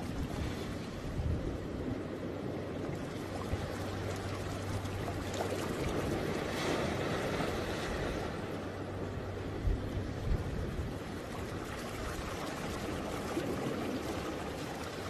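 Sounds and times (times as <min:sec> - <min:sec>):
water rushing at shoreline: 0:00.0 - 0:15.0.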